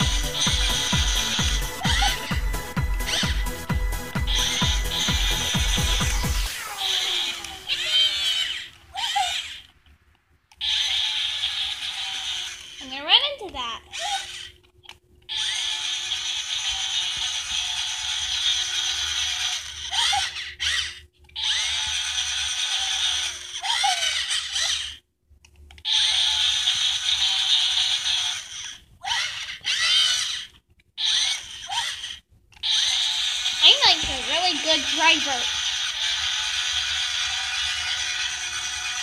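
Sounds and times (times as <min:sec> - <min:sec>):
toy scooter motor whirring: 0:00.0 - 0:09.8, 0:10.5 - 0:25.0, 0:25.7 - 0:39.0.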